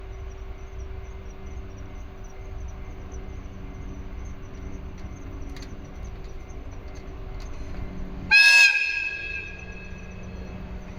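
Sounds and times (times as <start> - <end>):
insects trilling: 0.0 - 8.0, 8.8 - 10.9
faint constant hum: 0.0 - 10.9
low steady rumble: 0.0 - 10.9.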